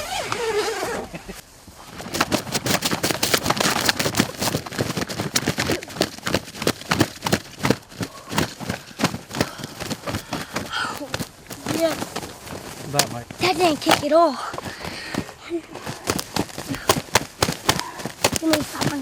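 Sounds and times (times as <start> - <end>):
footsteps crunching on dry leaves: 1.8 - 19.0.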